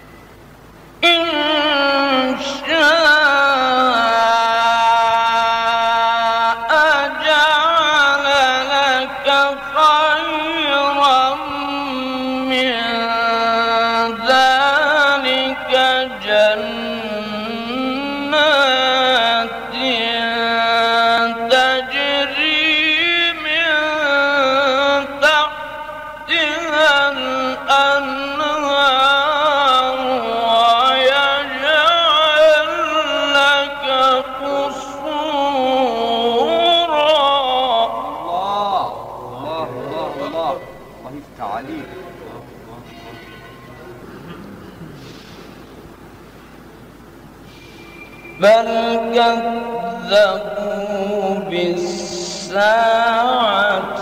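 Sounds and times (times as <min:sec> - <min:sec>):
man chanting melodically: 0:01.0 - 0:45.0, 0:48.4 - 0:54.0.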